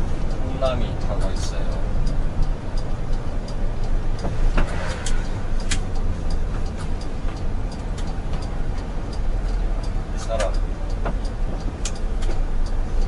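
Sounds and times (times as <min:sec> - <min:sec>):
light ticking: 0:00.0 - 0:13.0
truck engine and road rumble: 0:00.0 - 0:13.0.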